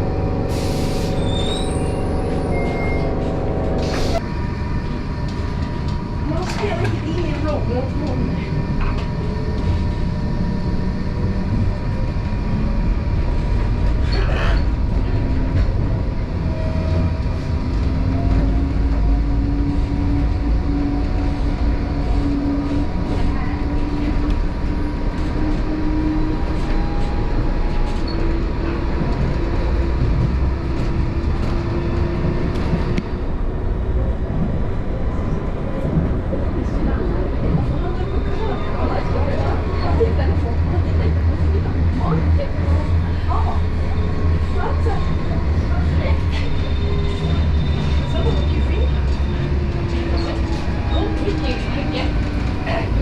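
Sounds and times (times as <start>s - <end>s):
tram rumbling on rails: 0.0s - 53.0s.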